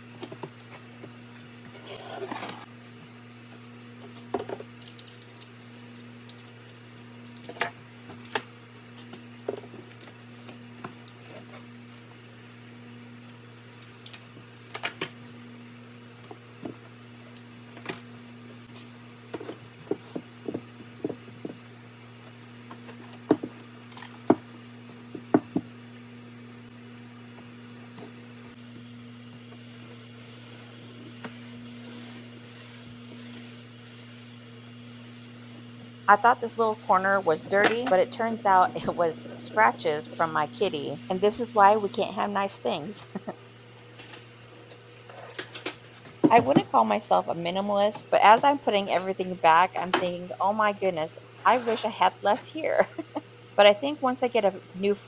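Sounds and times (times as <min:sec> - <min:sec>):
steady low hum: 0:04.8 - 0:55.0.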